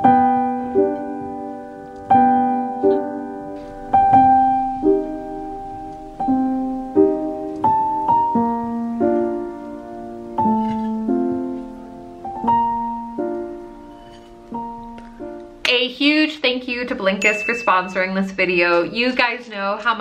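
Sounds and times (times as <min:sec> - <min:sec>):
slow piano chords: 0:00.0 - 0:18.9.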